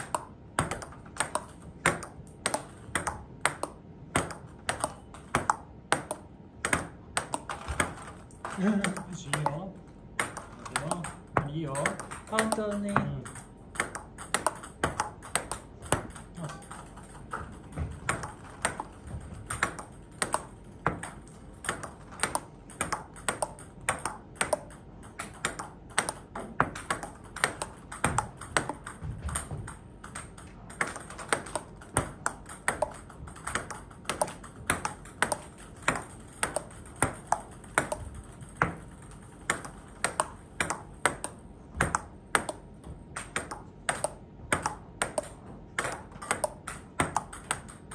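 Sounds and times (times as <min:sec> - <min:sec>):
ball bouncing on table: 0:00.0 - 0:47.9
table tennis ball clicking off paddles: 0:00.0 - 0:47.9.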